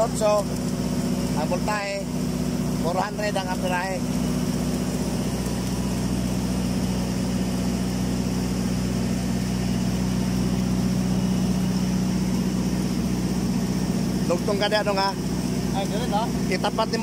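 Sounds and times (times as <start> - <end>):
welding machine hum: 0.0 - 17.0.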